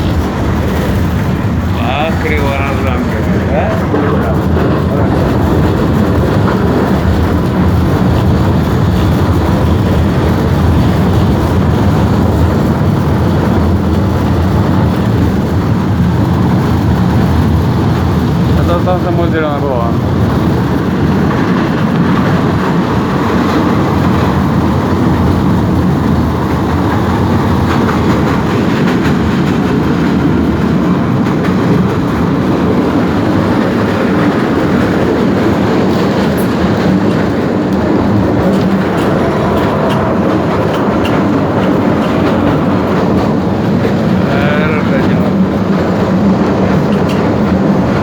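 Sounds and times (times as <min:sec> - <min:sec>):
tram wheels on rails: 0:00.0 - 0:48.0.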